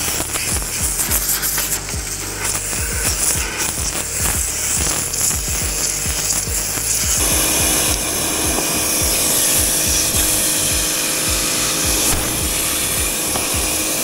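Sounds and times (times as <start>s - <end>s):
background music with steady beat: 0.0s - 14.0s
pressure washer jet hissing on metal: 0.0s - 14.0s.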